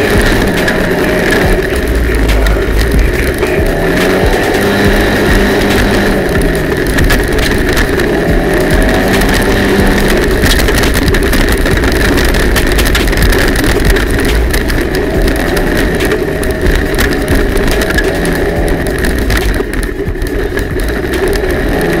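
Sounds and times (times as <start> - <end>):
clicks and knocks over rough ground: 0.0 - 22.0
high whine: 0.0 - 22.0
off-road vehicle engine: 0.0 - 22.0.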